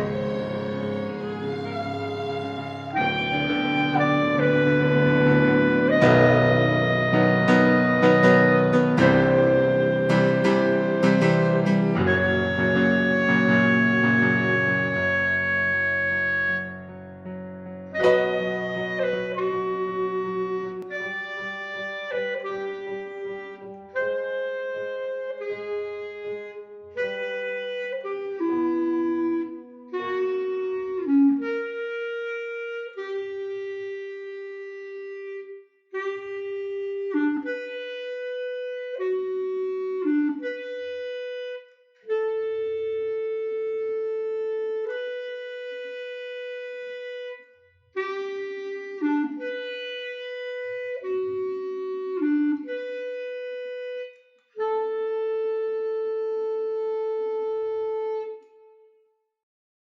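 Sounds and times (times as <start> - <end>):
slow woodwind melody: 0.0 - 59.1.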